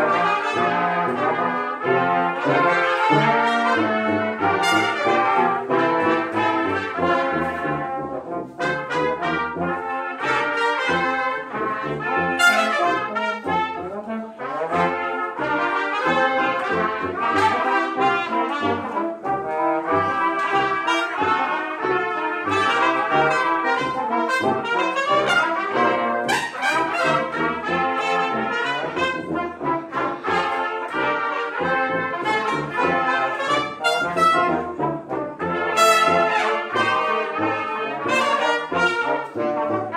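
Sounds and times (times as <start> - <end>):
brass ensemble playing: 0.0 - 39.9
tuba bass line: 0.0 - 39.9.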